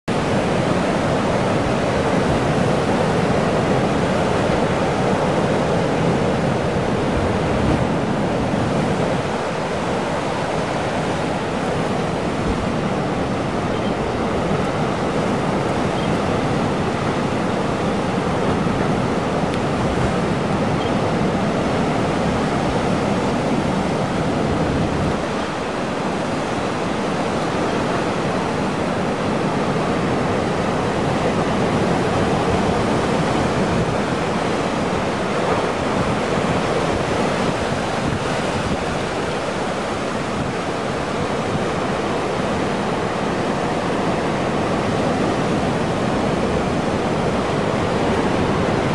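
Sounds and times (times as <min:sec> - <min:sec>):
ocean surf crashing on rocks: 0:00.1 - 0:48.9.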